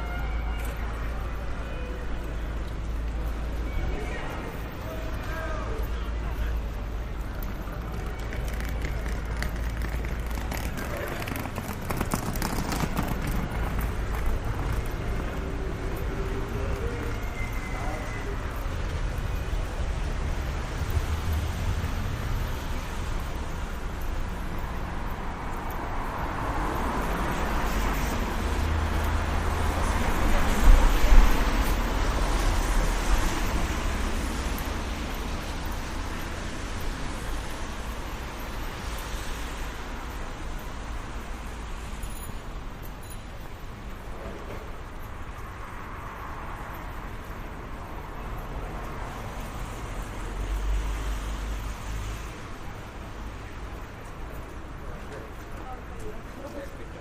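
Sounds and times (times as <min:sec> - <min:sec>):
steady traffic noise: 0:00.0 - 0:57.0.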